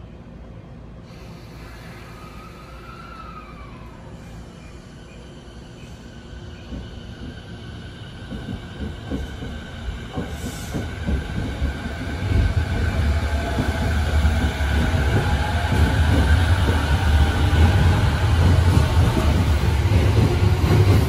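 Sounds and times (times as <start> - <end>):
train rolling past rumble: 0.0 - 21.0.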